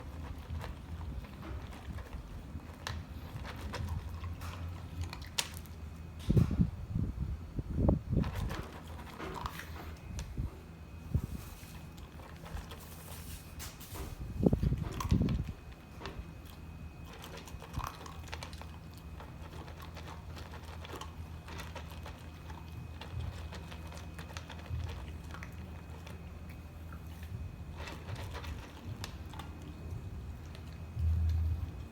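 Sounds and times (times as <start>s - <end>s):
puppy crunching dry kibble: 0.0s - 6.6s, 8.2s - 31.9s.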